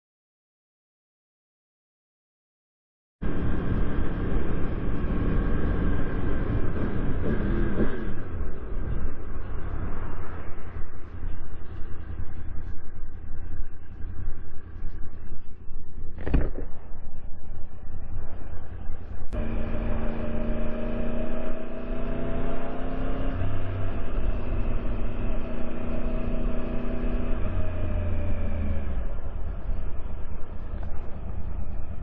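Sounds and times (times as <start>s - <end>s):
motorcycle engine hum: 3.2s - 32.0s
wind rumble on microphone: 3.2s - 32.0s.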